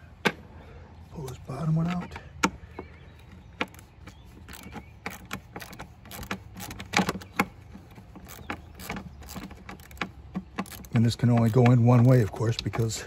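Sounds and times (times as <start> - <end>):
hand tool clicking and knocking: 1.9 - 13.0.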